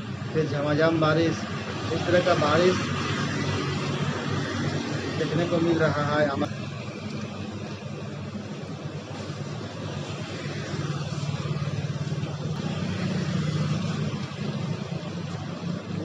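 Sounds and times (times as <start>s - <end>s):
motorbikes passing through water: 0.0s - 16.0s
steady rain on wet road: 0.0s - 16.0s.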